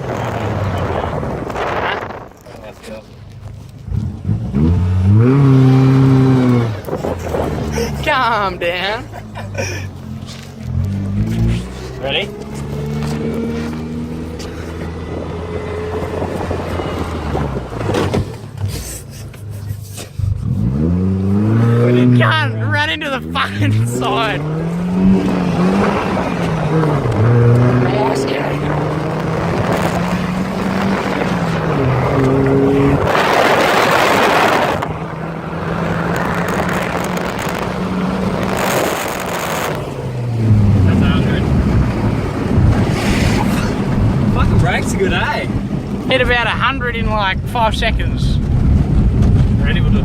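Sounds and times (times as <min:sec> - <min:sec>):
wind rushing over microphone: 0:00.0 - 0:02.5, 0:04.0 - 0:08.0, 0:11.2 - 0:18.6, 0:23.8 - 0:50.0
car engine running: 0:00.0 - 0:50.0.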